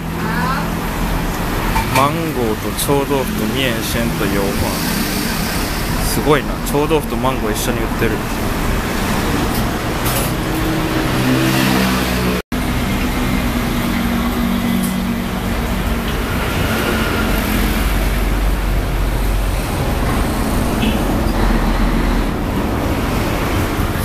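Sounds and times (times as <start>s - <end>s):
street traffic passing: 0.0s - 24.0s.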